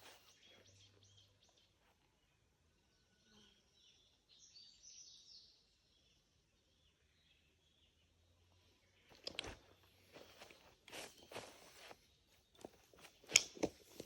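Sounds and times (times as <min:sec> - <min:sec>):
faint bird chirps: 0:00.0 - 0:12.7.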